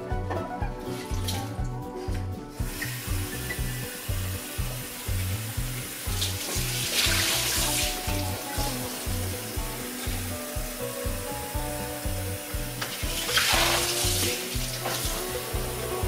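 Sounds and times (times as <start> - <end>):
background music with beat: 0.0 - 16.0.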